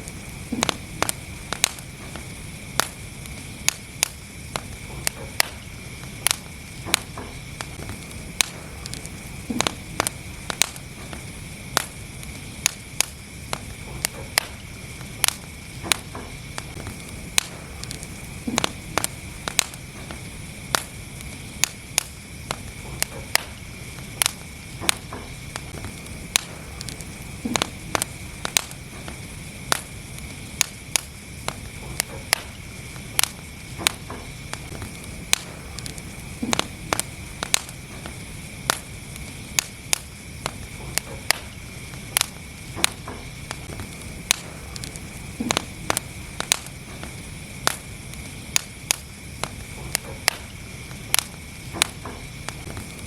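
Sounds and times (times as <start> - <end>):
fire popping and snapping: 0.0 - 53.0
low rush of flame: 0.0 - 53.0.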